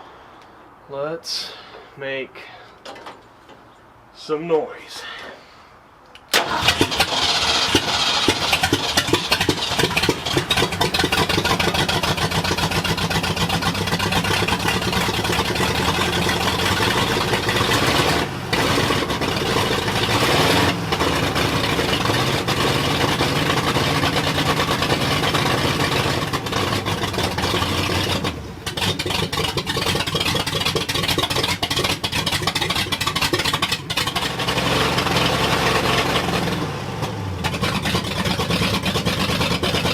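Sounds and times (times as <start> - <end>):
car engine running uneven revs: 7.1 - 39.9.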